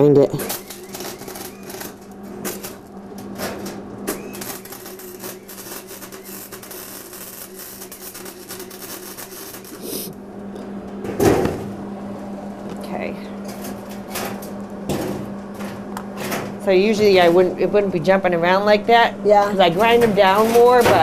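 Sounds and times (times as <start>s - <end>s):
welder arc crackling: 0.4s - 10.3s, 13.5s - 21.0s.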